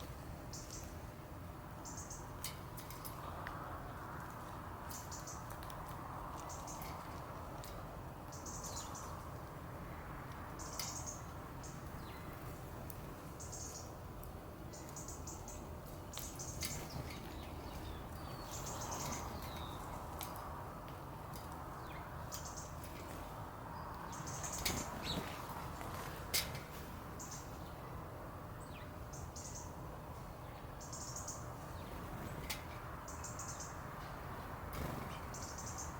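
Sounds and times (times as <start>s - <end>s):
low outdoor hum: 0.0s - 35.9s
small birds chirping: 0.4s - 1.0s, 1.8s - 35.9s.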